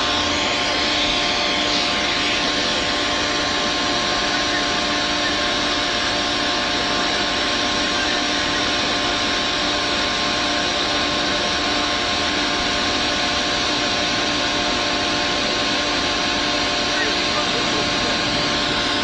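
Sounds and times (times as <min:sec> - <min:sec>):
heavy machinery hiss and whine: 0:00.0 - 0:19.0.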